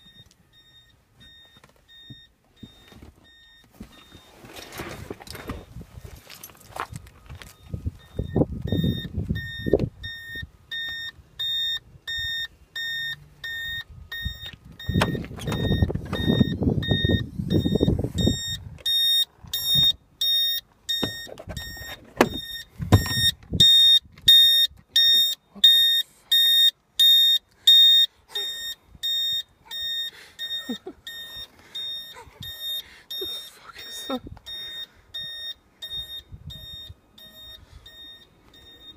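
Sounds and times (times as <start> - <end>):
reversing warning beeper: 0.0 - 6.1, 6.7 - 38.9.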